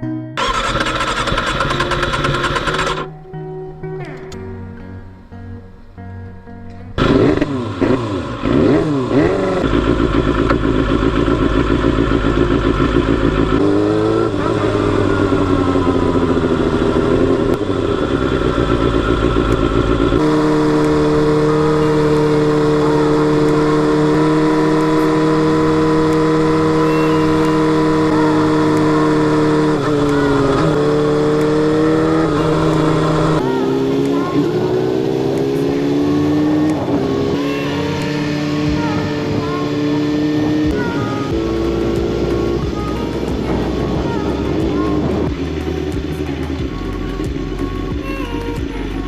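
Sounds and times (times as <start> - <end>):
motorcycle engine revving: 0.4 - 3.1, 7.0 - 49.0.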